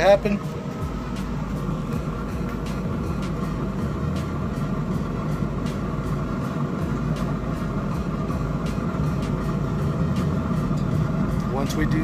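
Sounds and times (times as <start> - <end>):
grill fan running: 0.0 - 12.0.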